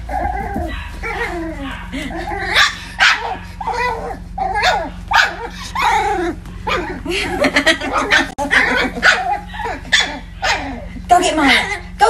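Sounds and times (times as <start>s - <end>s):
dog yipping and barking: 0.0s - 7.0s, 7.8s - 10.9s.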